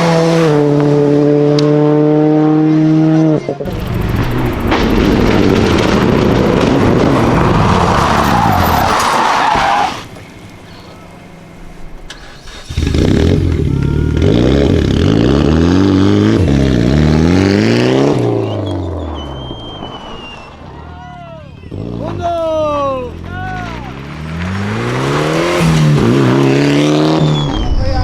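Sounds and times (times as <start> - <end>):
rally car engine revving: 0.0 - 28.0
tyre noise: 3.6 - 28.0.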